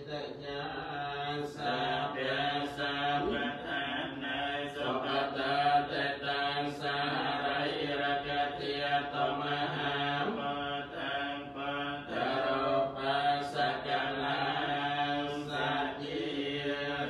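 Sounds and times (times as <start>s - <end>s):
monks chanting in monotone: 0.0s - 17.0s.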